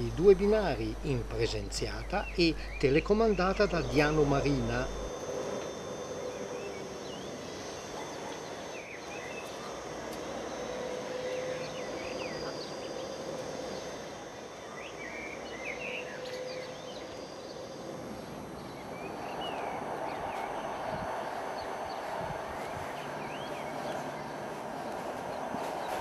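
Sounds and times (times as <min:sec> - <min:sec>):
small birds chirping: 0:00.0 - 0:17.7, 0:18.6 - 0:26.0
steady background hum: 0:00.0 - 0:26.0.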